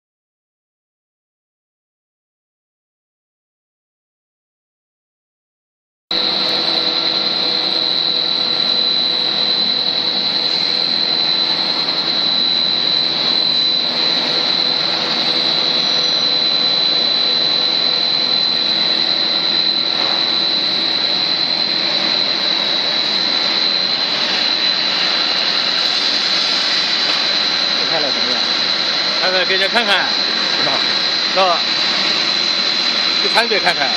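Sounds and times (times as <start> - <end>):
high-pitched machine whine: 6.1 - 33.9
machine drone: 6.1 - 33.9.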